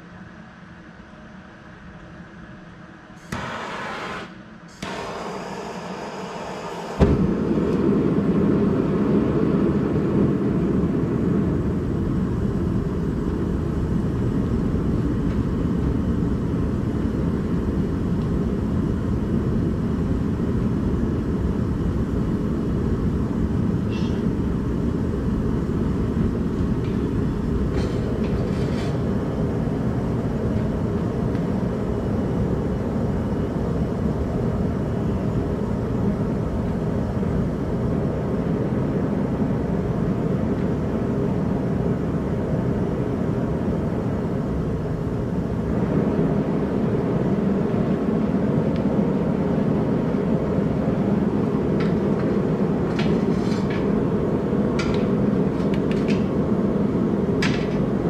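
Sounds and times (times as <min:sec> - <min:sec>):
forge burner roaring: 0:03.0 - 0:58.0.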